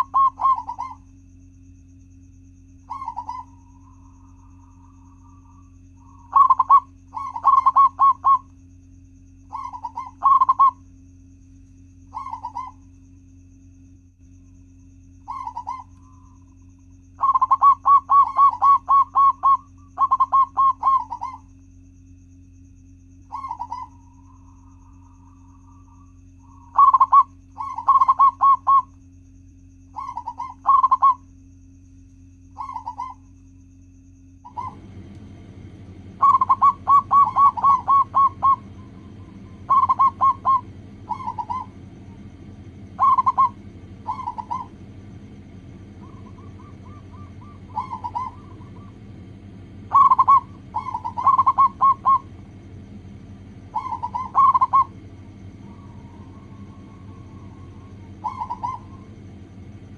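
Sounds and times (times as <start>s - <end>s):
dove cooing: 0.0s - 1.1s, 2.8s - 8.5s, 9.4s - 10.8s, 12.1s - 13.0s, 15.2s - 21.5s, 23.2s - 28.9s, 29.9s - 31.3s, 32.6s - 33.2s, 34.4s - 59.9s
steady low hum: 0.0s - 59.9s.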